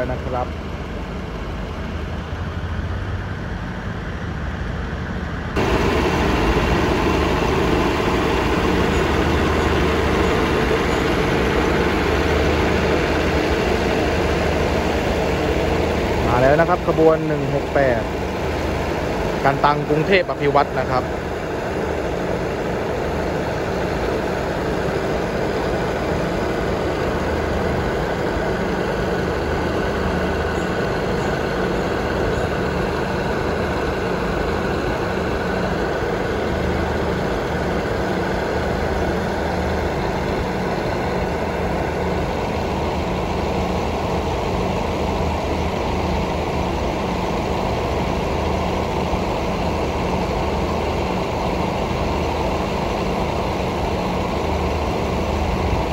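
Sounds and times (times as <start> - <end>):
diesel engine idling: 0.0 - 55.9
faint high whine: 3.8 - 55.9.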